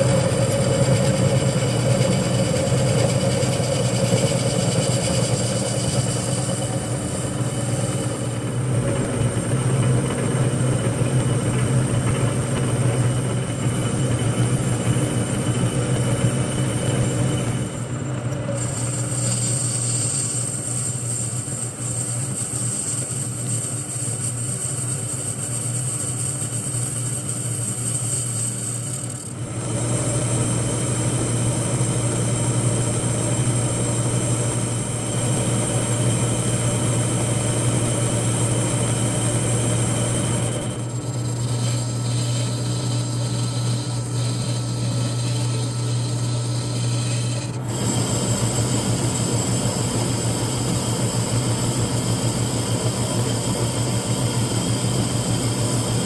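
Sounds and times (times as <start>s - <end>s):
metal lathe humming: 0.0s - 56.0s.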